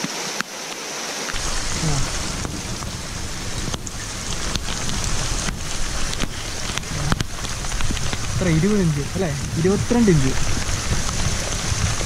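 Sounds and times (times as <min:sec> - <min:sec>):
rain falling: 0:00.0 - 0:12.0
wind rumble on microphone: 0:01.3 - 0:12.0.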